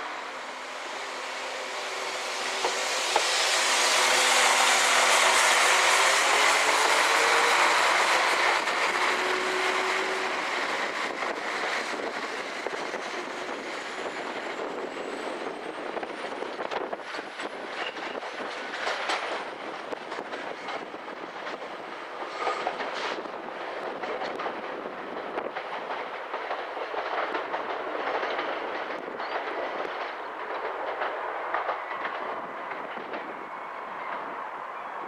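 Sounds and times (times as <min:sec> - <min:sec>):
diesel train engine passing: 0:00.0 - 0:35.0.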